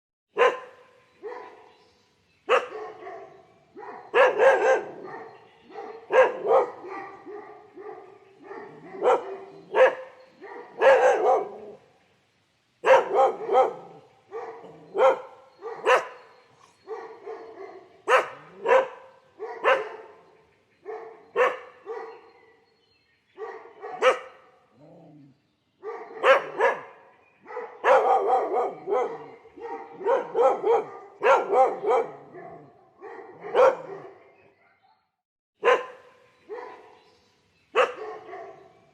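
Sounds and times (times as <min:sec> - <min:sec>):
dog barking: 0:00.3 - 0:01.7, 0:02.5 - 0:11.8, 0:12.8 - 0:22.6, 0:23.4 - 0:24.6, 0:25.8 - 0:37.0, 0:37.7 - 0:38.8.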